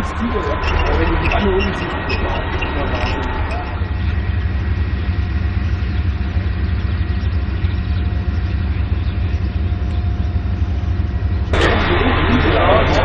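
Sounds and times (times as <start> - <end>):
diesel engine idling: 0.0 - 13.0
faint steady whine: 0.0 - 13.0.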